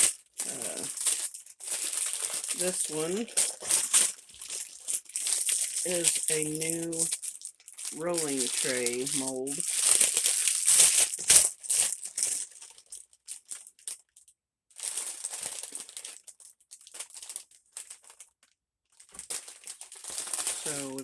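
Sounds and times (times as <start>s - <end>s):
packaging crinkling: 0.0s - 14.0s, 14.8s - 18.3s, 19.0s - 21.0s.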